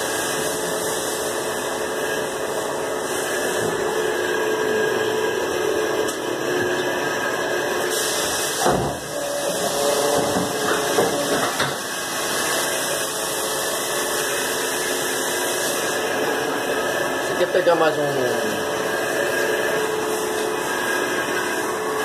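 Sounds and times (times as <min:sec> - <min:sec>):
paper guillotine humming: 0:00.0 - 0:22.0.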